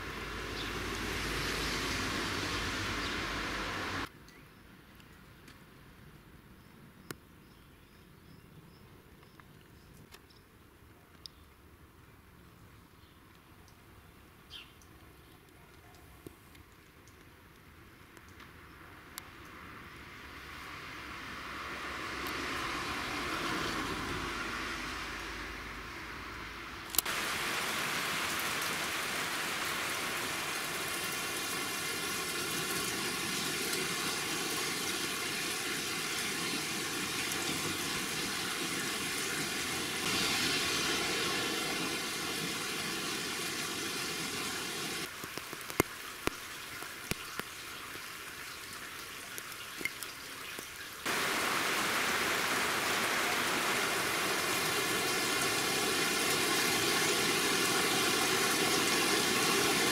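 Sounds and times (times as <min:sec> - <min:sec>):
rain falling steadily: 0:00.0 - 0:04.1, 0:12.4 - 0:59.9.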